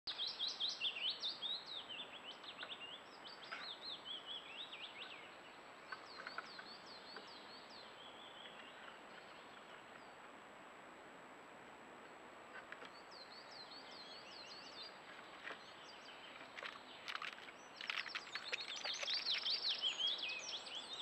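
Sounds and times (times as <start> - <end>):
songbirds warbling: 0.1 - 10.4, 12.0 - 21.0.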